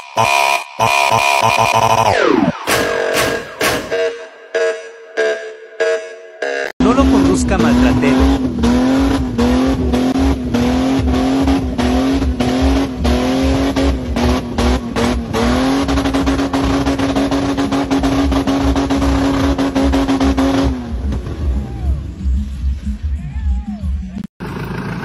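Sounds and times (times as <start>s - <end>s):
car engine at full throttle: 0.0s - 22.2s, 24.4s - 25.0s.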